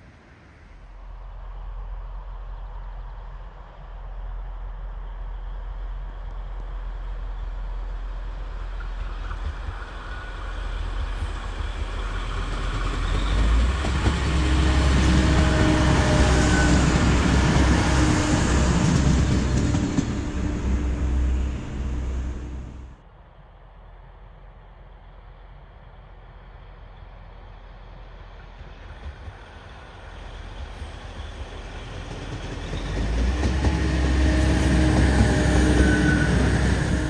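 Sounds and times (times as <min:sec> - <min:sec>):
diesel train passing: 0:00.0 - 0:37.0.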